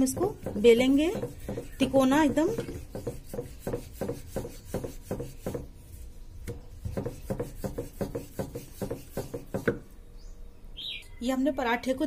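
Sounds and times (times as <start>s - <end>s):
rolling pin rubbing dough: 0.0s - 9.8s.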